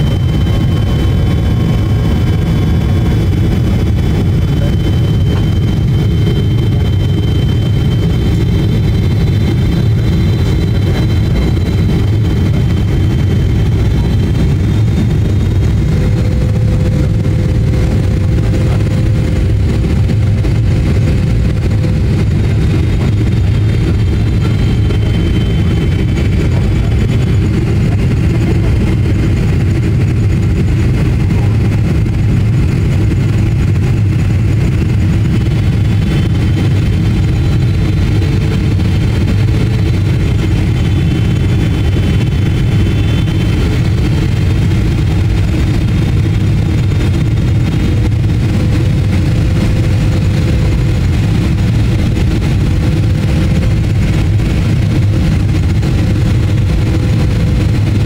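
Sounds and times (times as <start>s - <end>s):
faint high engine whine: 0.0s - 58.0s
low rumble of airflow and engines: 0.0s - 58.0s.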